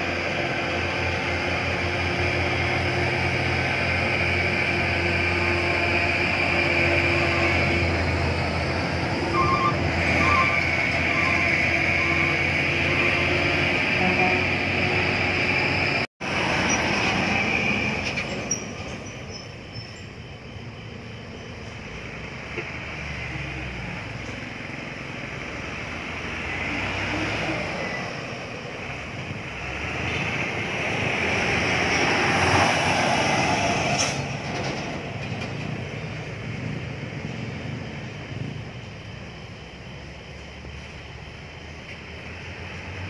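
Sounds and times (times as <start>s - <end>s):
truck engines: 0.0s - 43.0s.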